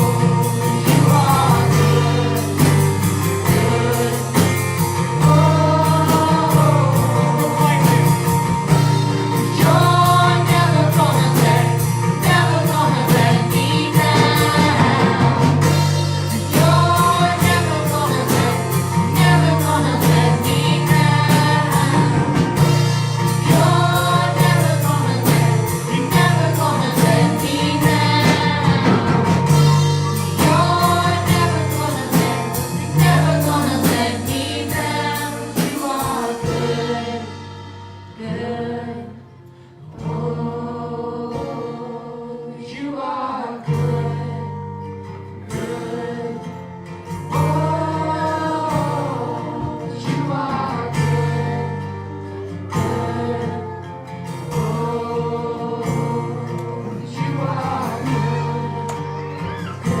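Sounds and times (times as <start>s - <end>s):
bass notes: 0.0s - 60.0s
group of voices singing: 0.0s - 60.0s.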